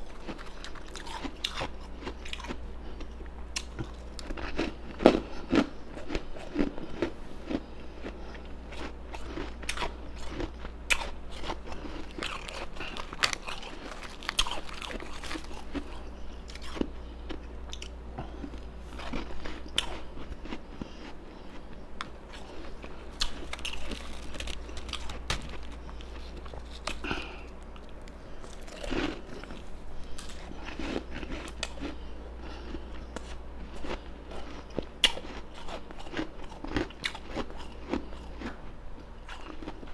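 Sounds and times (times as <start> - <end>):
chewing ice crunches: 0.0 - 38.6, 39.2 - 39.9.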